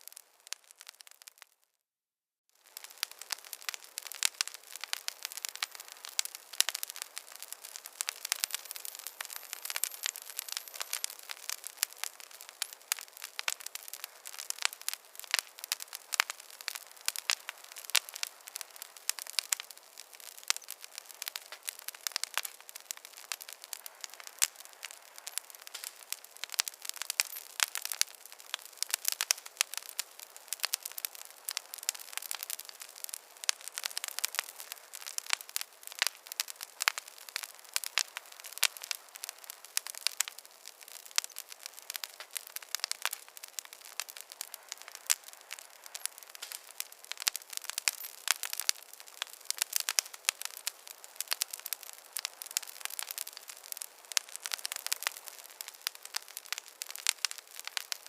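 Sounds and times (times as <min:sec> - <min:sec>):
fire crackling and popping: 0:00.0 - 0:01.6, 0:02.6 - 0:58.0.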